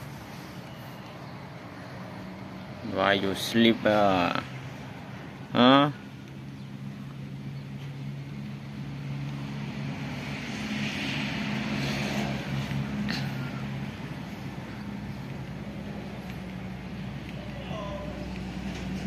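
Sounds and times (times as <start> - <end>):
distant engine droning: 0.0 - 19.0.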